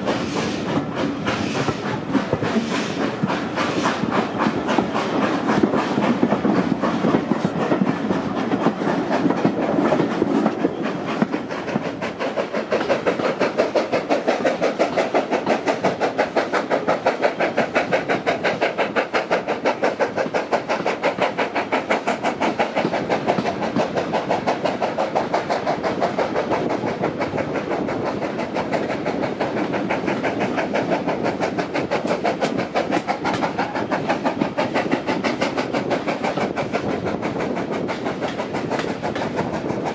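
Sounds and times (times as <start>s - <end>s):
steam locomotive beats: 0.0s - 39.9s.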